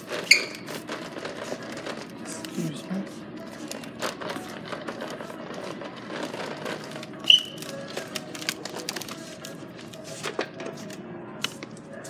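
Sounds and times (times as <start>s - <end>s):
faint music: 0.0s - 12.0s.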